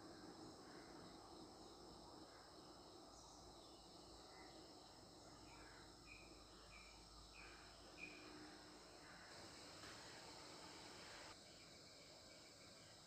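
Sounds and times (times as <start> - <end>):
steady high hum: 0.0 - 11.4.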